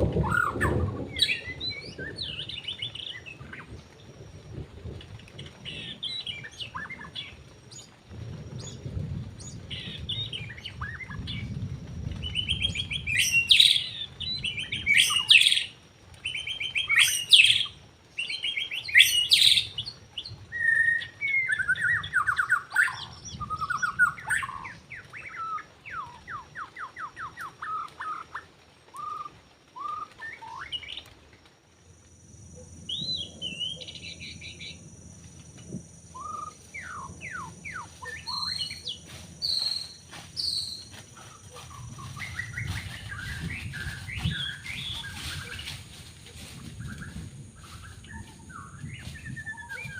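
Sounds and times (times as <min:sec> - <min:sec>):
bird singing whistles and trills: 0:00.1 - 0:03.8, 0:09.4 - 0:11.5, 0:12.1 - 0:31.1, 0:32.6 - 0:34.8, 0:36.0 - 0:49.9.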